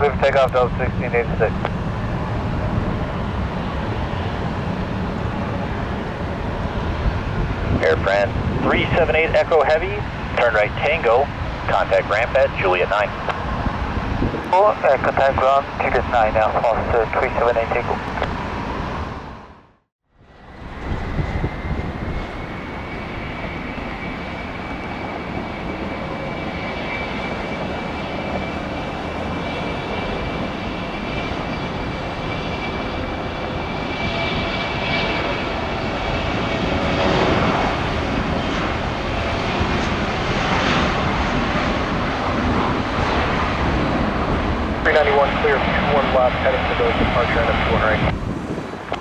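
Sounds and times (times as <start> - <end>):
jet engines rumbling and whining: 0.0 - 49.0.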